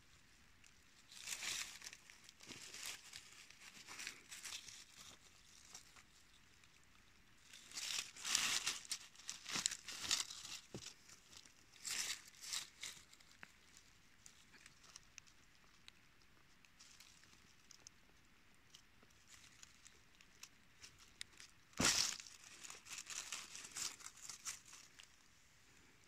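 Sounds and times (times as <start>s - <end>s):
dry leaves rustling: 0.9s - 15.8s, 16.7s - 17.9s, 18.7s - 25.3s.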